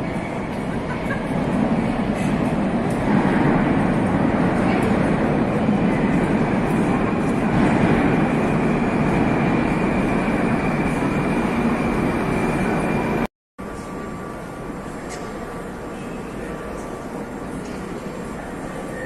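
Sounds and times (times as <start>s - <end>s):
metro train rumbling: 0.0s - 19.0s
station noise: 0.0s - 19.0s
faint high whine: 1.6s - 19.0s.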